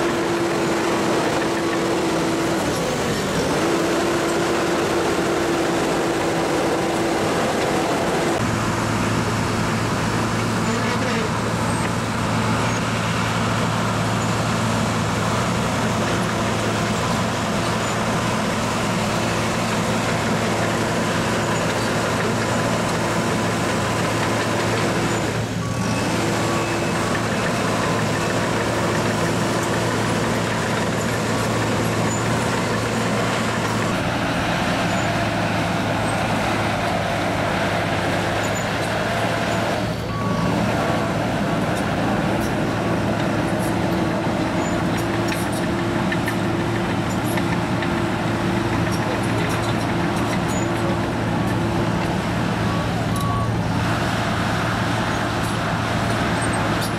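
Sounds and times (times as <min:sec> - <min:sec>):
dozer diesel engine under load: 0:00.0 - 0:56.9.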